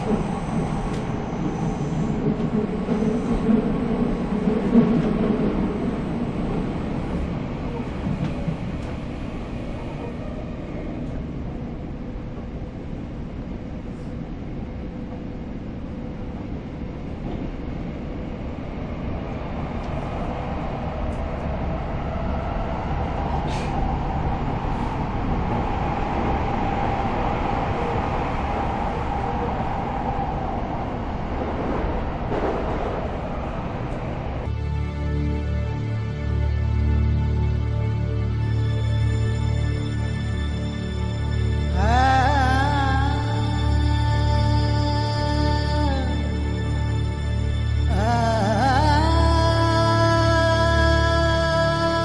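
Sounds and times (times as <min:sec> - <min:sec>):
passenger train running noise: 0:00.0 - 0:52.0.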